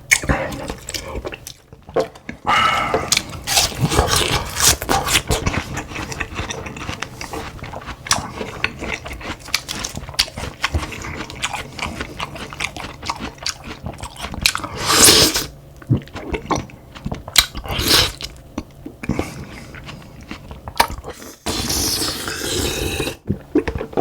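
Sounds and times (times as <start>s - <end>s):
chewing and mouth sounds: 0.1s - 24.0s.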